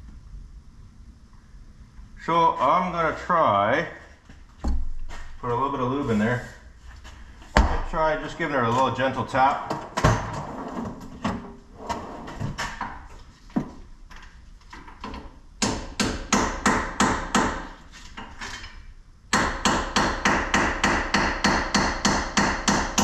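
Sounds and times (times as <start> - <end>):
steady background noise: 0.0 - 23.0.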